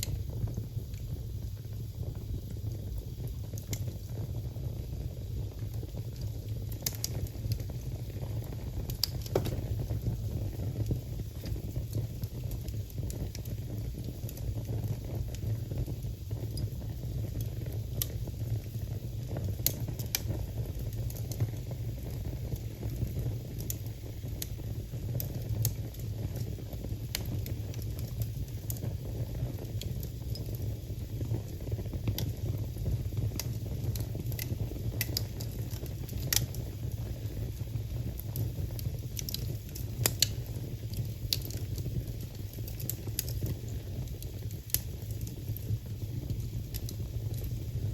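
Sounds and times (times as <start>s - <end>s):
fire pops: 0.0s - 47.9s
wood fire crackling: 0.0s - 47.9s.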